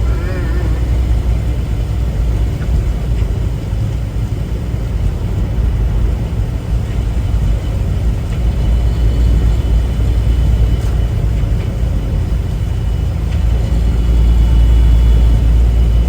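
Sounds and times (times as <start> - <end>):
truck engine drone: 0.0 - 16.0
tyres on wet road: 0.0 - 16.0.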